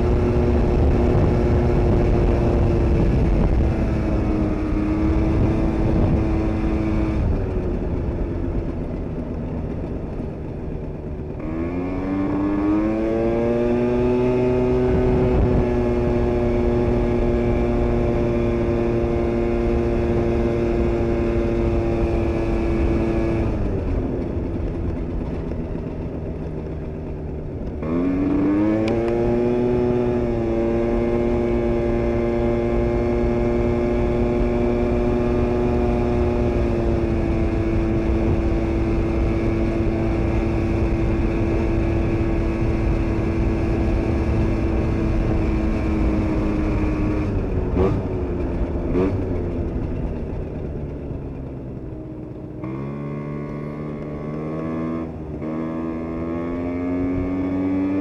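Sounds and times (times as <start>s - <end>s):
scooter engine revving: 0.0s - 58.0s.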